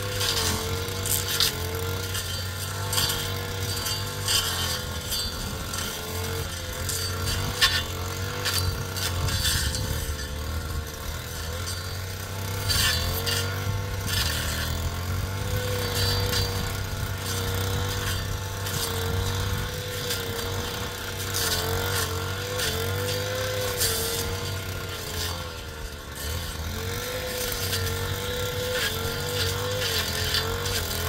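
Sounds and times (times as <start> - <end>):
engine running with whine: 0.0 - 31.0.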